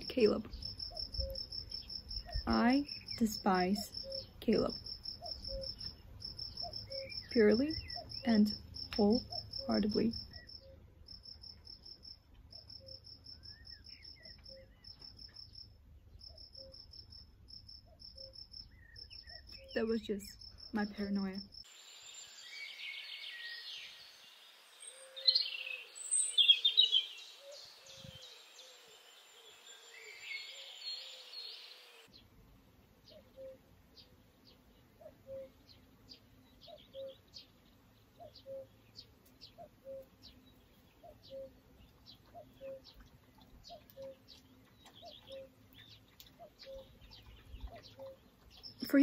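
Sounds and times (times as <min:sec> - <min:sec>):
songbirds chirping: 0:00.0 - 0:49.0.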